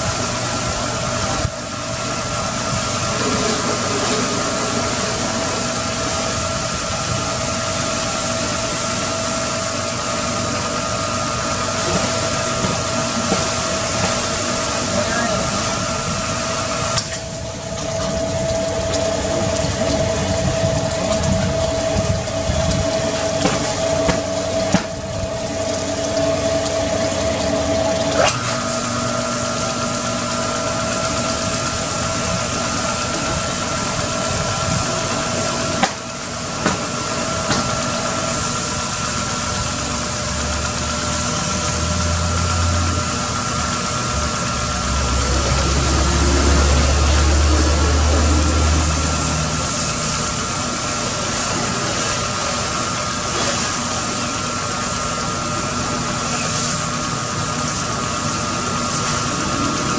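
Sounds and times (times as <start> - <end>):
pressure washer pump whining: 0.0 - 59.9.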